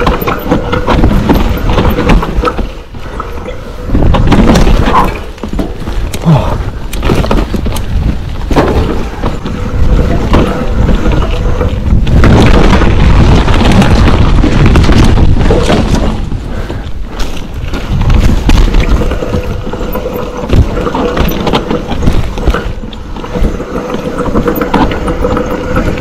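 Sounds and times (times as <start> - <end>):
bike clattering over bumps: 0.0 - 26.0
bike tyres rolling over dirt: 0.0 - 26.0
wind rumble on microphone: 0.0 - 26.0.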